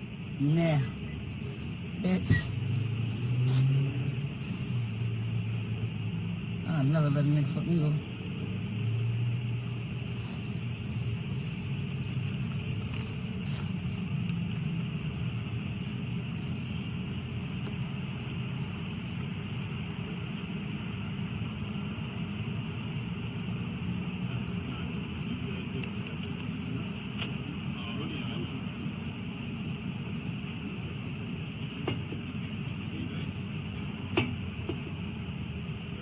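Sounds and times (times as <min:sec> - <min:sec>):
car engine low rumble: 0:00.0 - 0:36.0.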